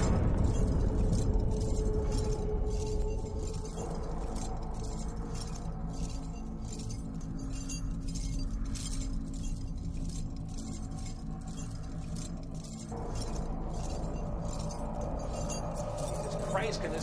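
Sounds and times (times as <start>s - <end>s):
low drone: 0.0s - 17.0s
metal chains clinking: 0.0s - 17.0s
slow footsteps: 0.0s - 17.0s.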